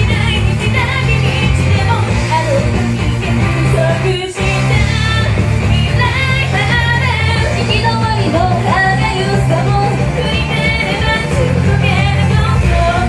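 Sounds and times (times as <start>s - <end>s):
pop-rock backing track: 0.0s - 13.0s
women singing: 0.0s - 13.0s.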